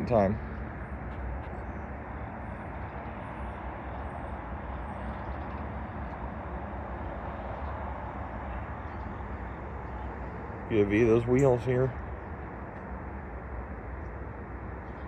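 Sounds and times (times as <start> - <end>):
freight train rumbling past: 2.1 - 14.8.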